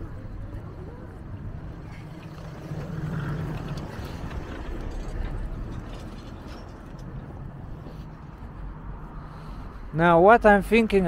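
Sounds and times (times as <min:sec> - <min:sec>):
low city street rumble: 0:00.0 - 0:11.0
car engine passing by: 0:00.2 - 0:09.8.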